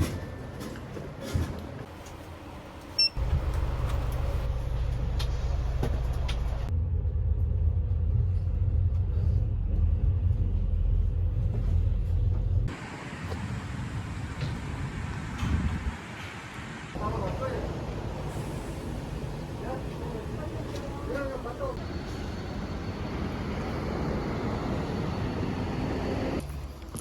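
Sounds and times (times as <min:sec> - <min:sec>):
vehicle rumbling in motion: 0:00.0 - 0:27.0.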